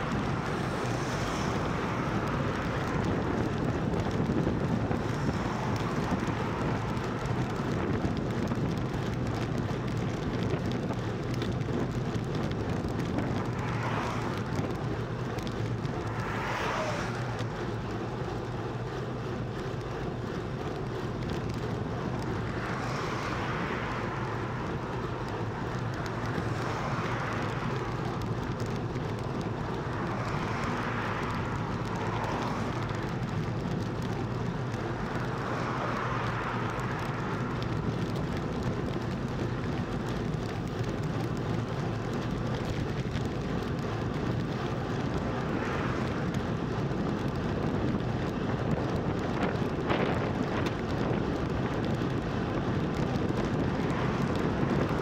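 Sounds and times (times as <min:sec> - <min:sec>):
constant low hum: 0:00.0 - 0:55.0
wind and road noise: 0:00.0 - 0:55.0.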